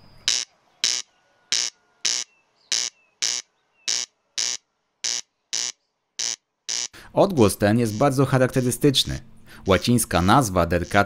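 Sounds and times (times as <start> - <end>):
corncrake rasping call: 0.2 - 7.0, 7.8 - 11.0.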